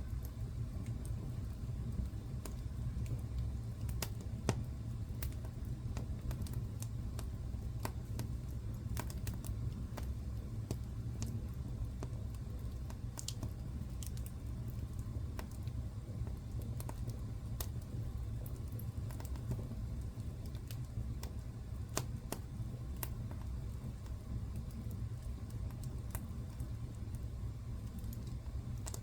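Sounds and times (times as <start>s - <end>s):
low rumble of flames: 0.0s - 29.0s
wood fire crackling and popping: 0.0s - 29.0s.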